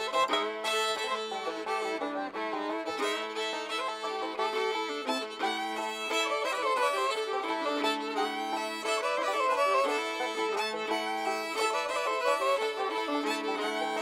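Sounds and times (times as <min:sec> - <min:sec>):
fiddle tune: 0:00.0 - 0:14.0.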